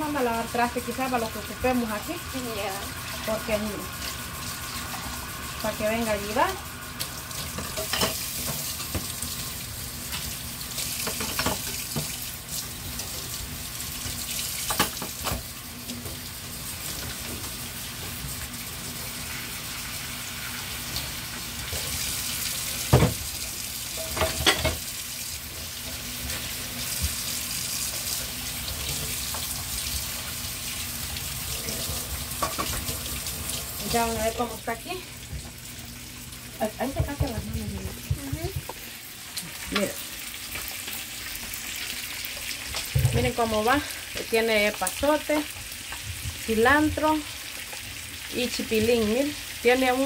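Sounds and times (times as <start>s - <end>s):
meat sizzling in a pan: 0.0s - 50.0s.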